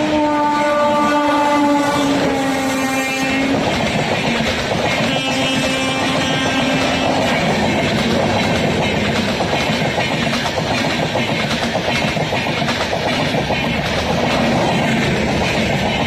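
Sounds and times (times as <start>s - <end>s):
train wheels clattering: 0.8s - 16.0s.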